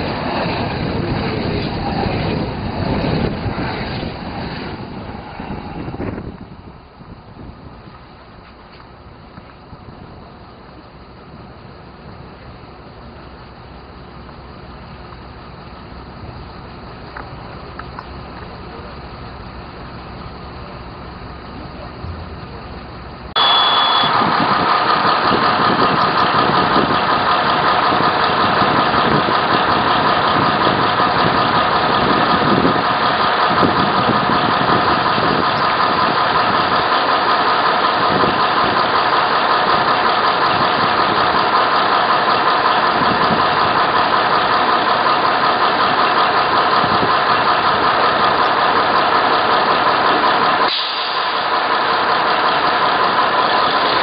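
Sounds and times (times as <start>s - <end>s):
electric train equipment humming: 0.0s - 50.7s
rushing noise: 0.0s - 54.0s.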